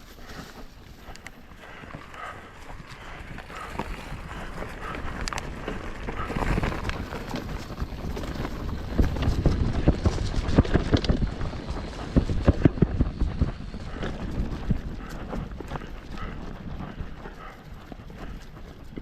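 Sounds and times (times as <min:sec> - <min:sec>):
bike rattling and clattering: 0:00.0 - 0:19.0
bike tyres rumbling on rock: 0:00.0 - 0:19.0
wind on microphone: 0:00.0 - 0:19.0.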